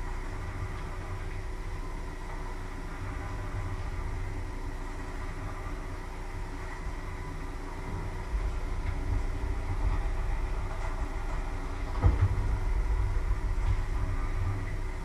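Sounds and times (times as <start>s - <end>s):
electric kettle heating water: 0.0s - 15.0s.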